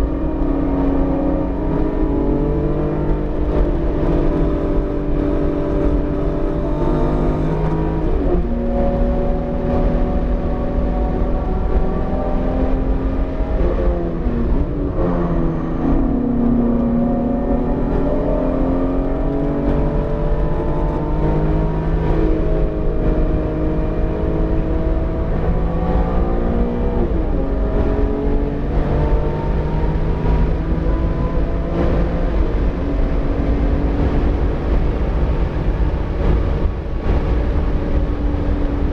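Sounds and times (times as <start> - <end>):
car engine under load: 0.0 - 38.9.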